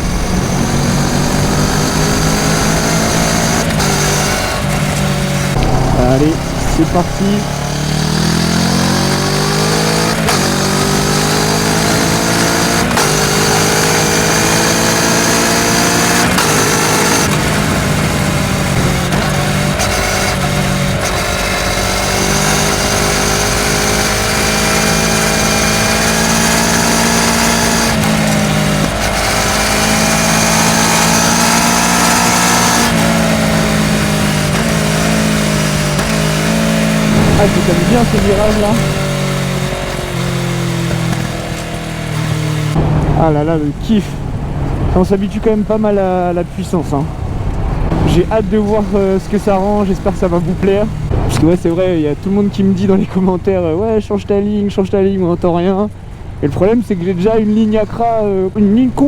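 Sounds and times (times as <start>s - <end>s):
motorcycle engine accelerating: 0.0s - 52.7s.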